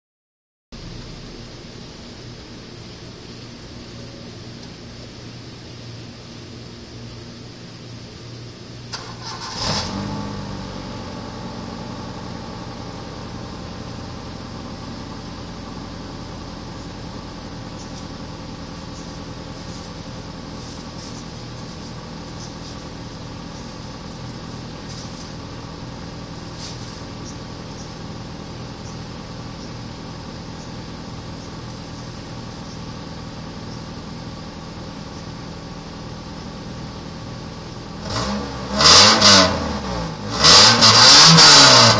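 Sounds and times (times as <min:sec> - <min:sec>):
car engine starting and idling: 0:00.8 - 0:41.9.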